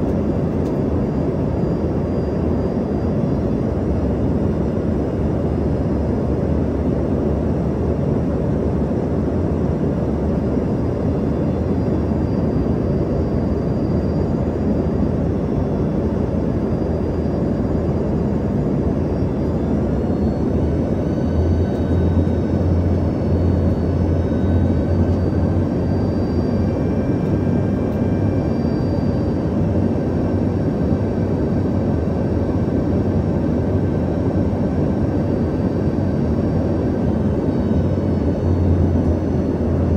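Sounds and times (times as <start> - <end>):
faint high turbine whine: 0.0 - 39.9
jet cabin engine drone: 0.0 - 39.9.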